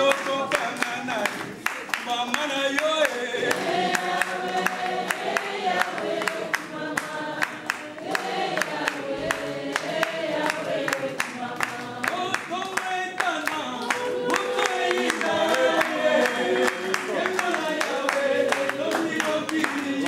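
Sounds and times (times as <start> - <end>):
hands clapping a beat: 0.0 - 20.0
group singing in unison: 2.2 - 20.0.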